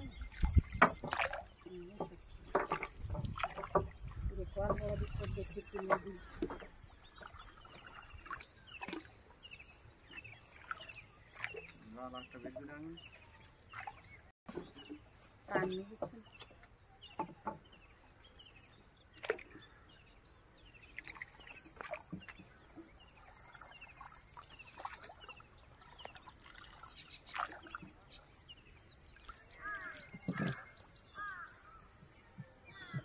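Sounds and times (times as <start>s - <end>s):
birds chirping and calling: 0.0s - 33.0s.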